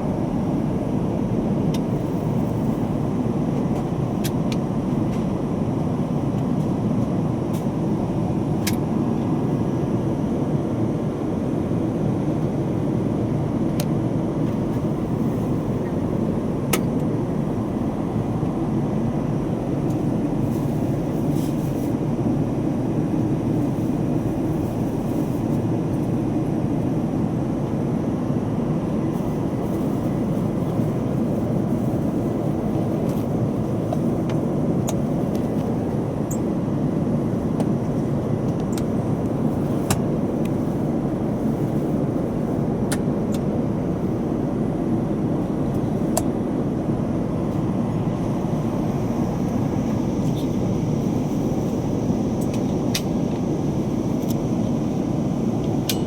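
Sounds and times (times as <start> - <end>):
vehicle rumble inside cabin: 0.0 - 56.0.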